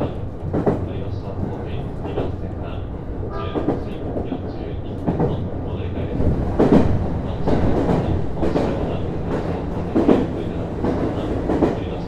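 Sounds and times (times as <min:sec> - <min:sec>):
railcar hum and wheel rumble: 0:00.0 - 0:12.0.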